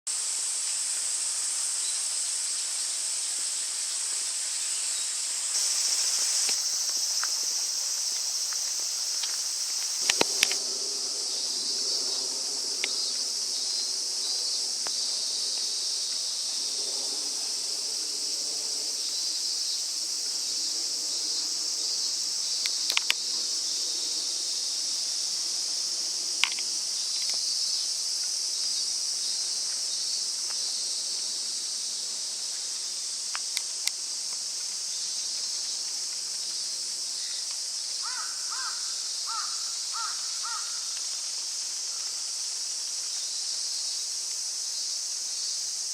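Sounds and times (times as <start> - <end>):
insects buzzing drone: 0.1 - 45.9.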